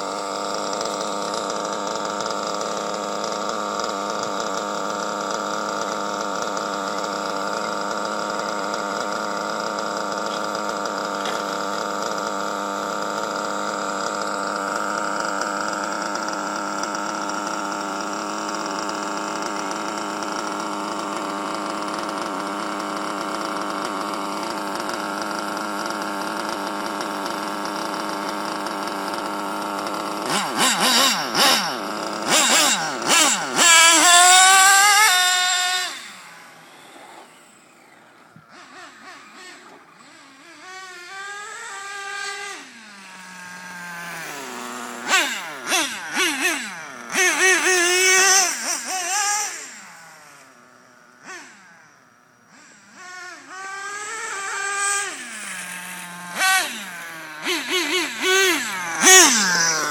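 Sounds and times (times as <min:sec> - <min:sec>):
small nitro engine revving: 0:00.0 - 0:59.9.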